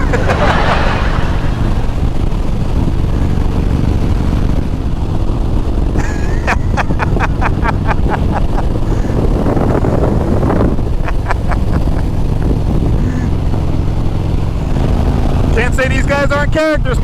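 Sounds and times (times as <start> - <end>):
wind on microphone: 0.0 - 15.4
motorcycle engine running: 0.0 - 17.0.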